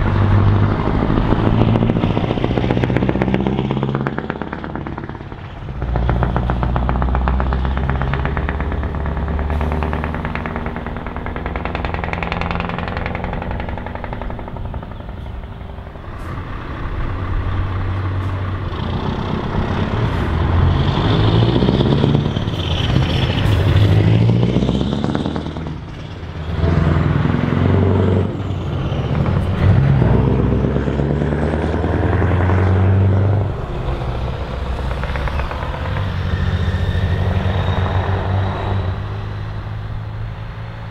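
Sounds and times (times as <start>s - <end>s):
truck engines accelerating: 0.0s - 40.9s.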